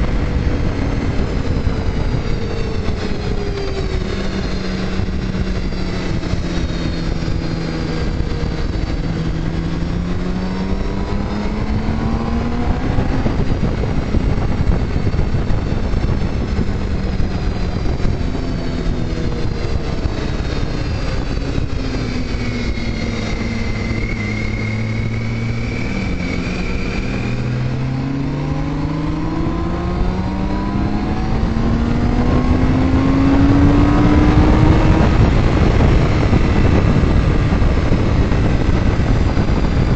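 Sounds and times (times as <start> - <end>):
motorcycle engine accelerating: 0.0 - 39.9
wind noise rushing: 0.0 - 39.9.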